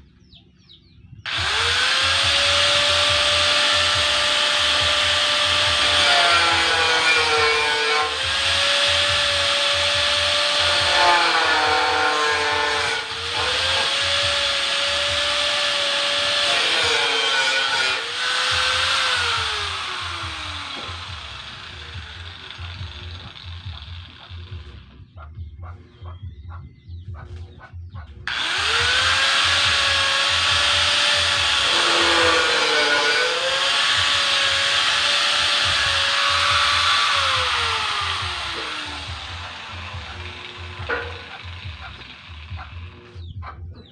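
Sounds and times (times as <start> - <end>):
angle grinder cutting metal: 1.3 - 25.0, 28.3 - 43.2.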